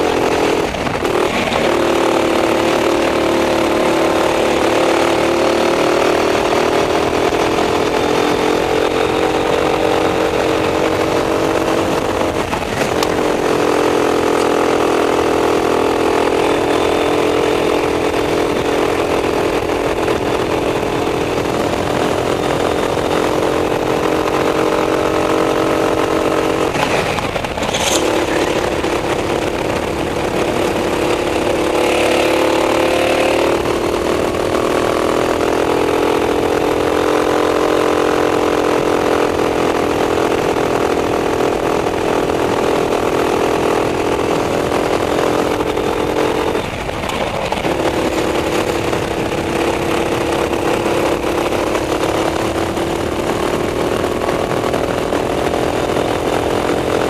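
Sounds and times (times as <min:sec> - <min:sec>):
go-kart engine at high revs: 0:00.0 - 0:57.0.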